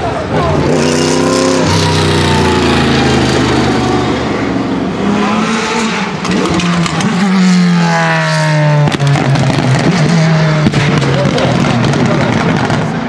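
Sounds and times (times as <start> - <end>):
race car engine passing: 0.2 - 13.0.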